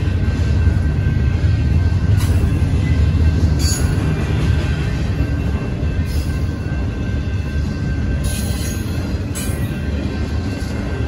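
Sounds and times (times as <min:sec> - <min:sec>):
crossing bell ringing: 0:00.0 - 0:11.0
train wheels rumbling on rail: 0:00.0 - 0:11.0.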